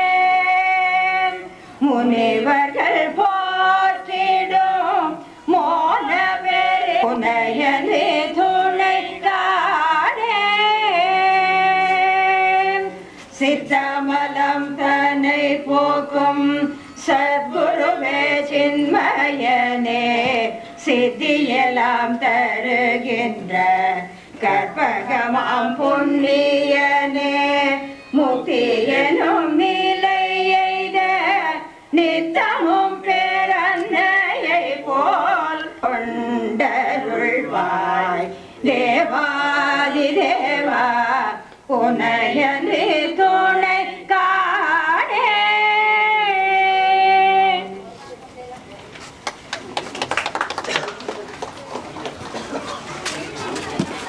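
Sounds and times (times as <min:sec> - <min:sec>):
voices singing long held notes: 0:00.0 - 0:47.9.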